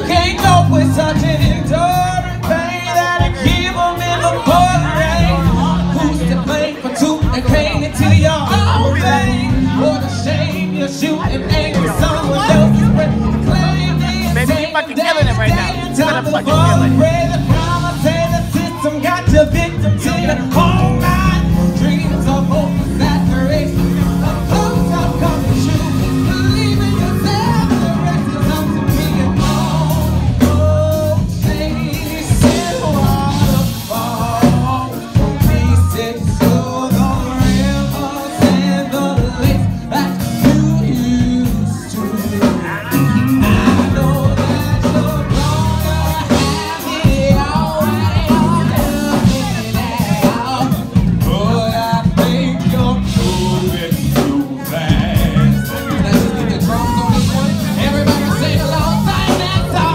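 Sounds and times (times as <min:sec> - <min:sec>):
live band playing soul music: 0:00.0 - 0:59.9
person singing: 0:00.0 - 0:59.9.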